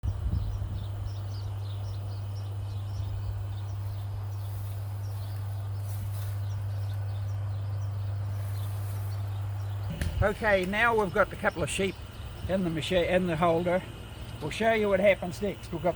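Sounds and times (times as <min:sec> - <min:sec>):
small birds chirping: 0:00.0 - 0:15.9
steady low hum: 0:00.0 - 0:15.9.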